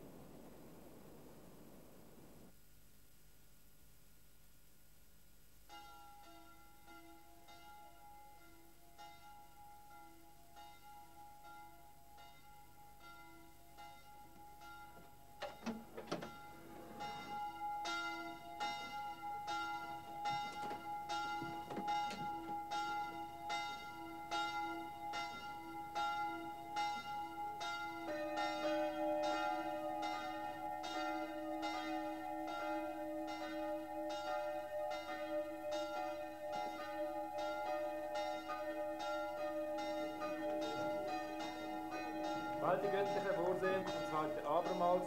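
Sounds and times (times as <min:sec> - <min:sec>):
church bells ringing: 0:05.7 - 0:45.0.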